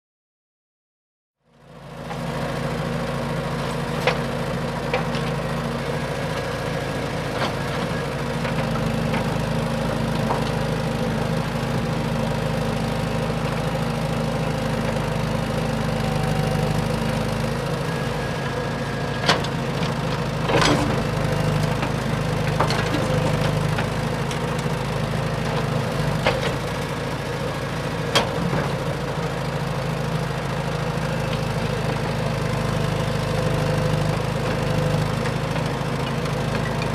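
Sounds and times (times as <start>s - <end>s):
excavator engine running: 1.6s - 36.9s.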